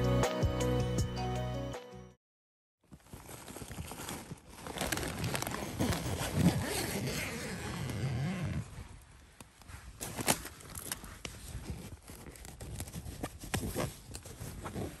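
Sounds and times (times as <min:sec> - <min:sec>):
tent fabric rustling: 0:02.8 - 0:15.0.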